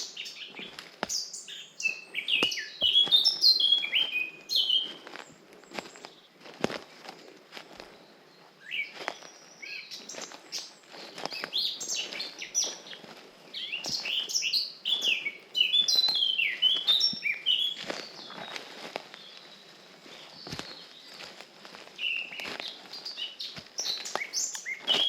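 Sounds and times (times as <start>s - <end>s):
footsteps on forest path: 0.0s - 25.0s
songbirds chirping: 0.0s - 25.0s.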